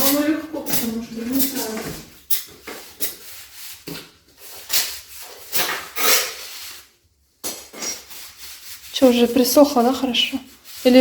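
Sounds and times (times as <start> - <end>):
scrubbing floor tiles: 0.0 - 11.0.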